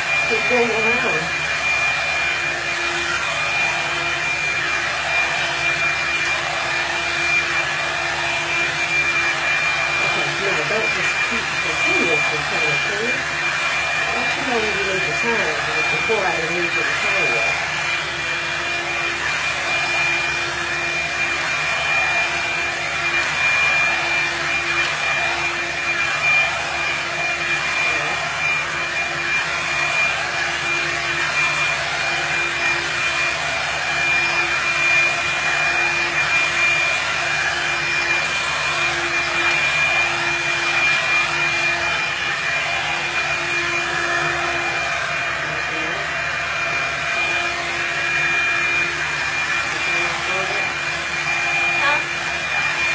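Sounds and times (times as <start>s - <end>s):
blow dryer running: 0.0s - 52.9s.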